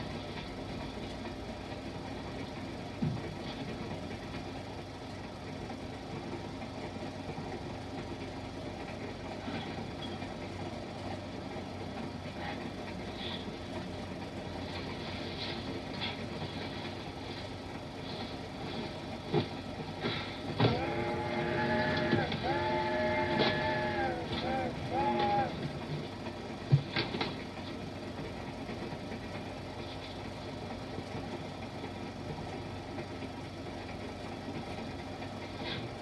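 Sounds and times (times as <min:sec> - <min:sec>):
passenger train rumbling: 0:00.0 - 0:36.0.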